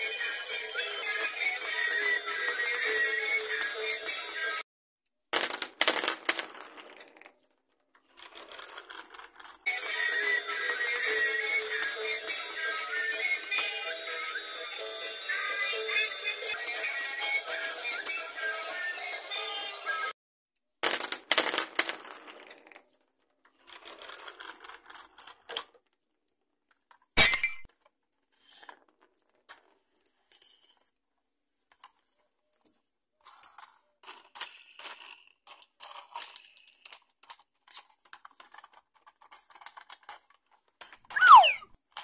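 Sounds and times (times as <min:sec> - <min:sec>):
plastic toys clicking and rattling: 0:00.0 - 0:04.6, 0:05.4 - 0:14.7, 0:15.4 - 0:19.6, 0:20.8 - 0:42.0.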